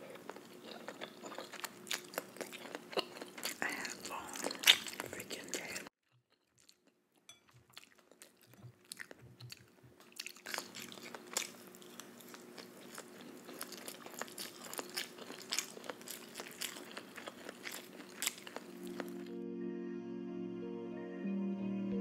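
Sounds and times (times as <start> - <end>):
chewing and crunching food: 0.0 - 19.3.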